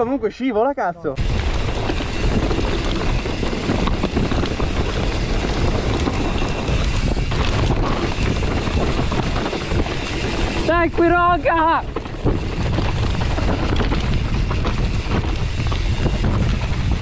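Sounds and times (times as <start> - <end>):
bike knocks and rattles on stones: 1.2 - 17.0
low rumble: 1.2 - 17.0
wind on microphone: 1.2 - 17.0.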